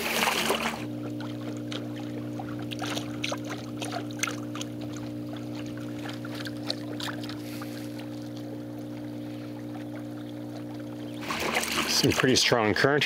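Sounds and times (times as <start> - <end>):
water splashing against hull: 0.0 - 13.0.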